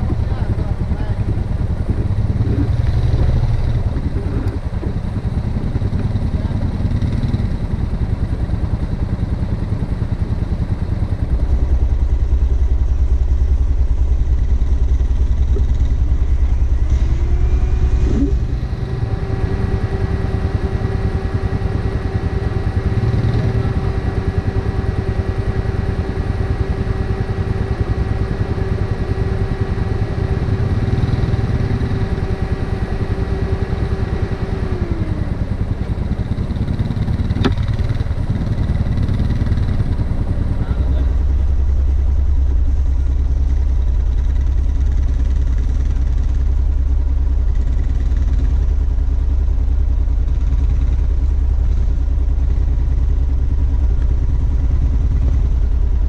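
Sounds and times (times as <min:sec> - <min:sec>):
atv engines running: 0:00.0 - 0:56.0
heavy low drone: 0:00.0 - 0:56.0
steady whine: 0:00.0 - 0:56.0.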